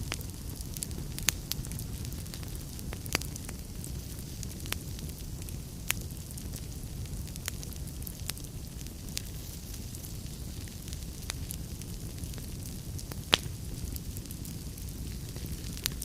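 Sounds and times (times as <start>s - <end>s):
fire crackling: 0.0s - 16.0s
fire low rumble: 0.0s - 16.0s.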